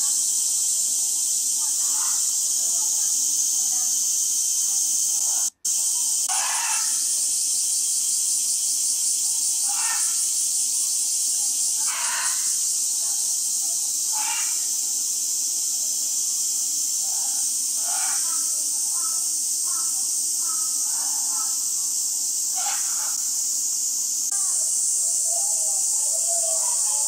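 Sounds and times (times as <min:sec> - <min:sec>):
high-pitched outdoor hiss: 0:00.0 - 0:27.0.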